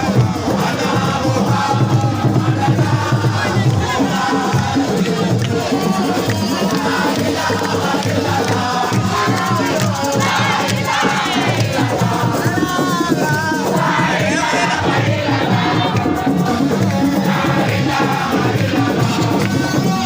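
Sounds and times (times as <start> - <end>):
crowd singing and chanting: 0.0 - 20.0
loud rhythmic music with percussion: 0.0 - 20.0.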